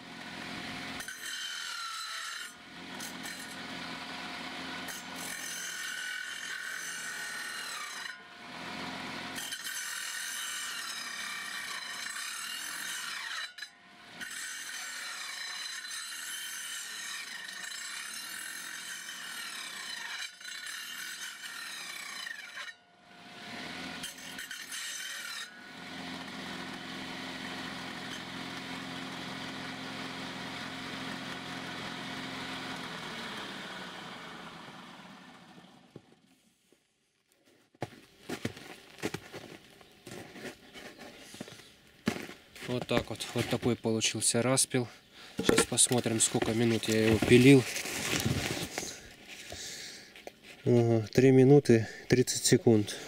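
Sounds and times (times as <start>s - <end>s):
saw motor humming: 0.0s - 36.0s, 40.0s - 53.0s
circular saw cutting wood: 0.0s - 36.1s, 40.0s - 53.0s.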